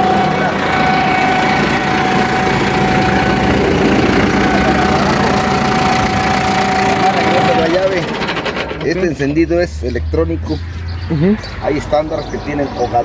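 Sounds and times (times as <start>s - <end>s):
tractor engine idling: 0.0s - 10.9s
engine whine: 0.0s - 13.0s.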